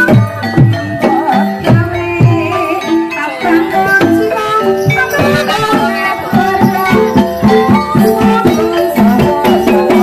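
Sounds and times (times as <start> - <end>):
ringing pitched percussion notes: 0.0 - 10.0.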